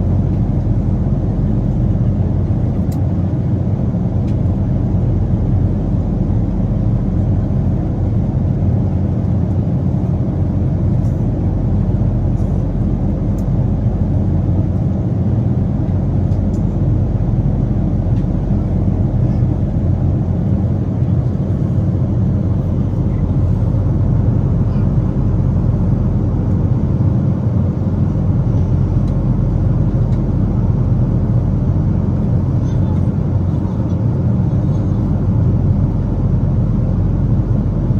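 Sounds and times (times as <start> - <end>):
airplane cabin engine rumble: 0.0 - 37.9.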